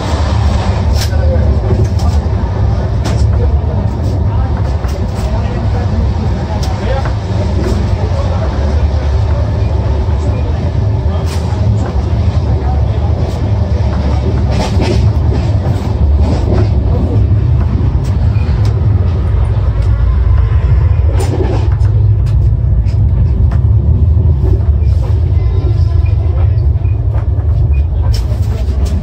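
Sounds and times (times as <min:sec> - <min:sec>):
train clicks and rattles: 0:00.0 - 0:29.0
train running low rumble: 0:00.0 - 0:29.0.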